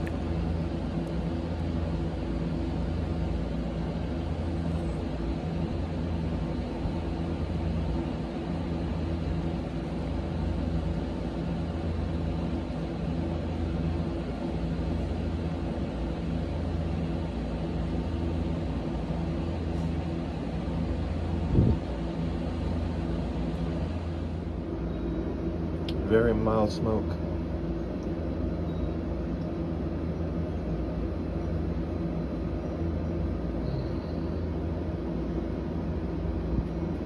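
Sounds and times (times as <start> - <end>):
steady mechanical hum: 0.0 - 37.0.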